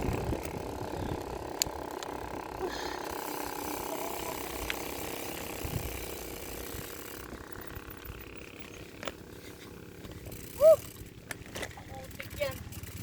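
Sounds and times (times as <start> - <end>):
bicycle freewheel clicking: 0.0 - 13.0
road and wind noise: 0.0 - 13.0.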